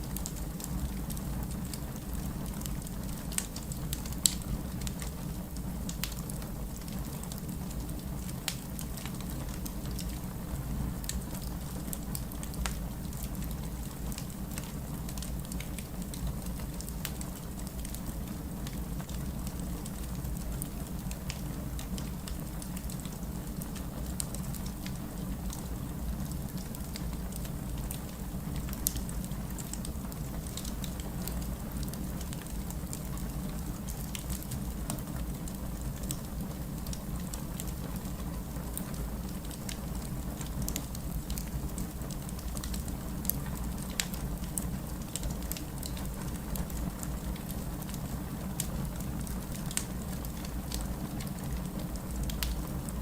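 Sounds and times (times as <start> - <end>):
fire crackling and popping: 0.0 - 53.0
steady rain patter: 0.0 - 53.0.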